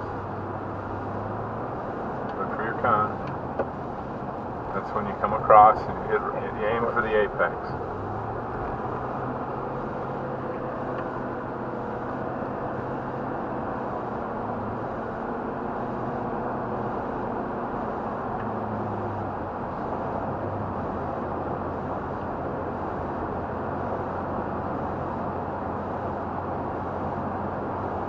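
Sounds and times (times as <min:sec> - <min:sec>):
road and tyre noise: 0:00.0 - 0:28.0
truck engine hum: 0:00.0 - 0:28.0.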